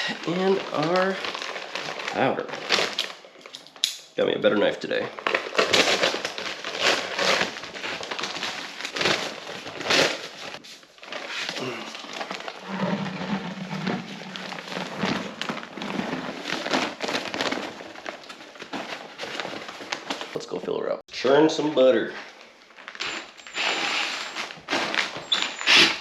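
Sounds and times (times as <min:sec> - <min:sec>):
bag crinkling and rustling: 0:00.1 - 0:03.9, 0:05.0 - 0:20.4, 0:22.4 - 0:26.0.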